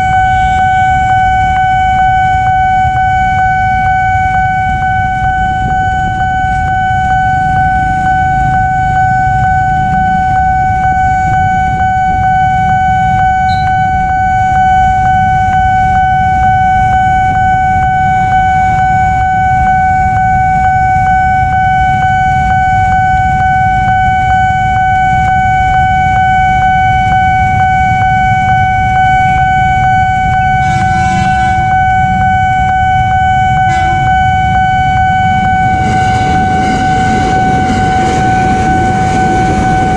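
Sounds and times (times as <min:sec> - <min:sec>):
level crossing alarm tone: 0:00.0 - 0:39.9
train horn: 0:00.0 - 0:39.9.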